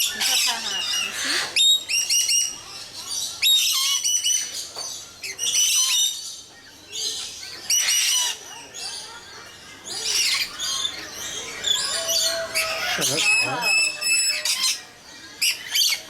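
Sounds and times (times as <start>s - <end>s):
birds chirping shrilly: 0.0s - 16.0s.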